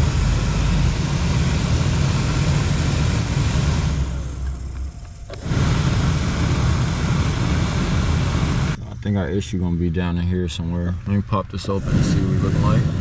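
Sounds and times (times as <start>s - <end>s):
blower fan rushing air: 0.0s - 13.0s.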